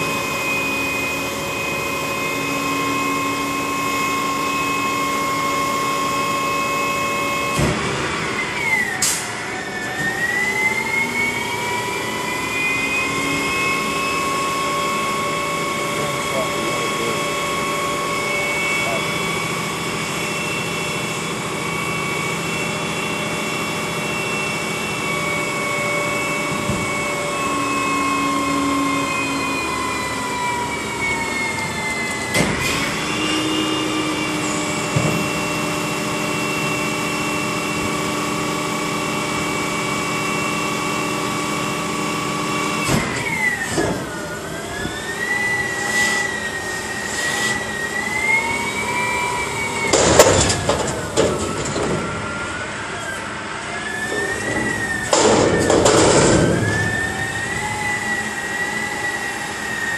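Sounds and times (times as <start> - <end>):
hydraulic whine: 0.0 - 59.9.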